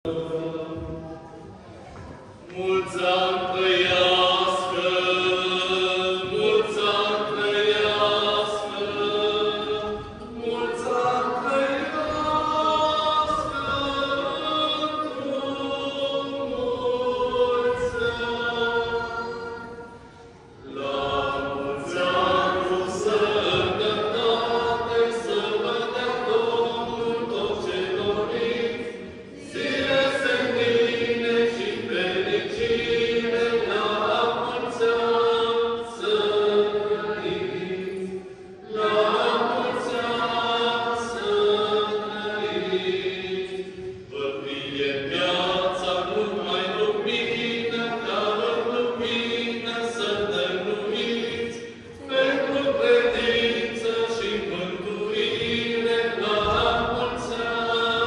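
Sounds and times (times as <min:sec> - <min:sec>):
choir singing a chant: 0:00.0 - 0:58.0.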